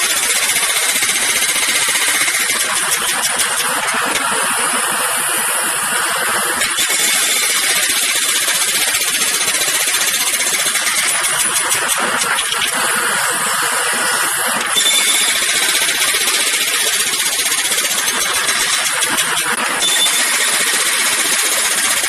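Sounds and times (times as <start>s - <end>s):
jackhammer pounding: 0.0s - 22.0s.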